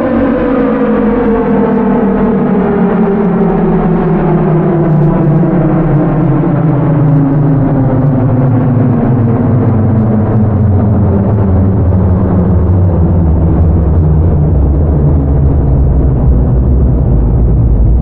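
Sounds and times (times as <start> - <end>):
slowed warning siren: 0.0 - 18.0.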